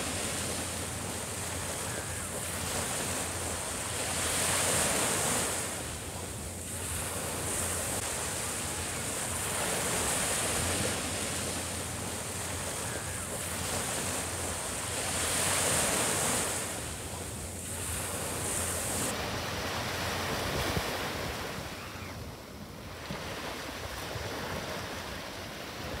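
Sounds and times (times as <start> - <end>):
waves breaking on sandy beach: 0.0 - 26.0.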